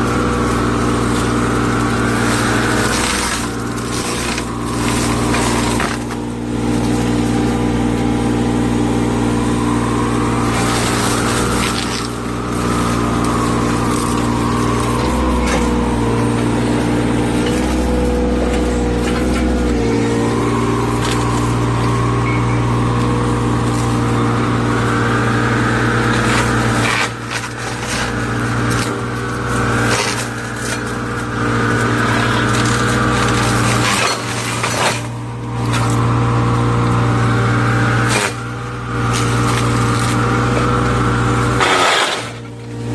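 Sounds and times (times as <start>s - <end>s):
cutter attachment whine: 0.0s - 42.9s
excavator engine drone: 0.0s - 42.9s.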